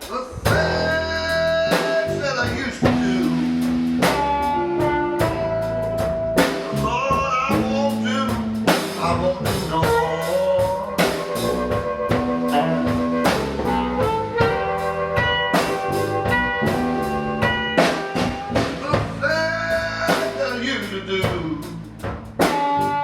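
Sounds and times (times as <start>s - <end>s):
blues band playing live: 0.0s - 23.0s
drum kit: 0.0s - 23.0s
sustained lead guitar notes: 0.5s - 23.0s.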